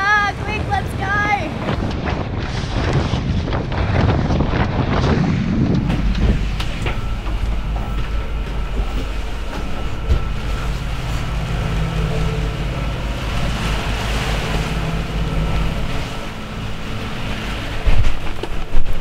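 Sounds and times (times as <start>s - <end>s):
sea noise: 0.0s - 19.0s
wind: 0.0s - 19.0s
steady low hum: 1.6s - 19.0s.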